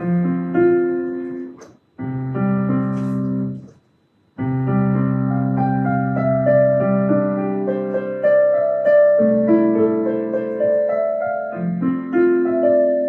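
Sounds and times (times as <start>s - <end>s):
piano chords: 0.0s - 3.8s, 4.4s - 13.0s.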